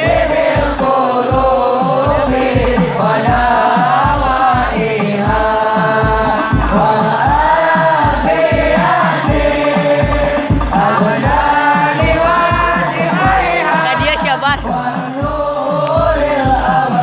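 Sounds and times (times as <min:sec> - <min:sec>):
low drum beat: 0:00.0 - 0:17.0
person singing: 0:00.0 - 0:17.0.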